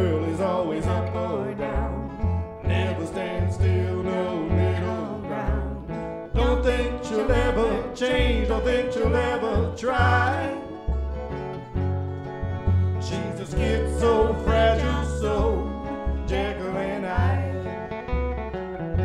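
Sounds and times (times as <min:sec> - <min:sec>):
country music with acoustic guitar: 0:00.0 - 0:19.0.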